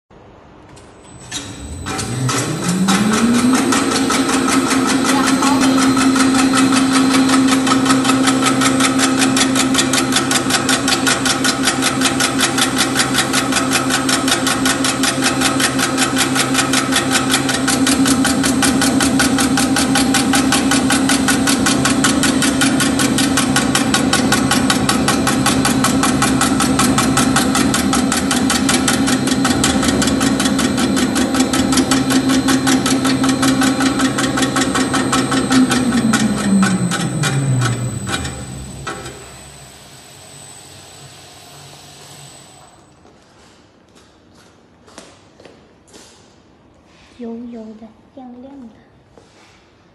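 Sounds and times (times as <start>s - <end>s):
motor hum: 1.0s - 43.0s.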